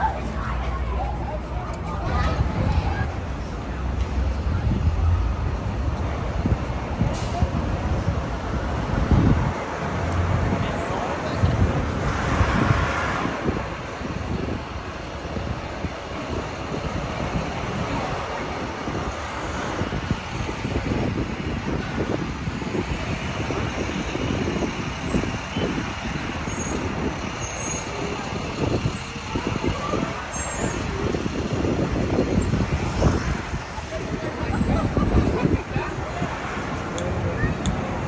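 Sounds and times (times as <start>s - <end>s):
steady traffic: 0.0s - 38.0s
trucks and buses passing: 0.0s - 38.0s.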